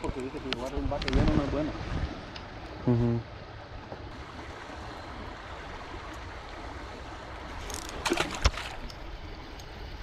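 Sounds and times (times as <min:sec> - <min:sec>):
rushing outdoor noise: 0:00.0 - 0:10.0.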